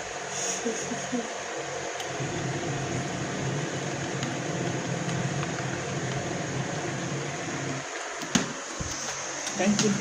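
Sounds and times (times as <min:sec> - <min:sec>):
washing machine motor humming: 0:00.0 - 0:10.0.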